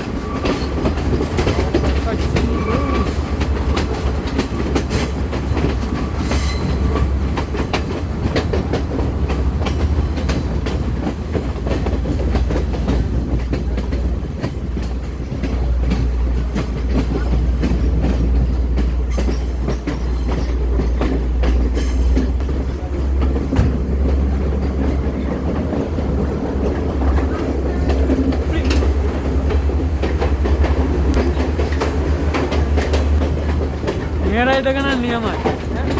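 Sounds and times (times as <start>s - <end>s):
train rumbling: 0.0s - 35.9s
wheels clattering over rail joints: 0.0s - 35.9s.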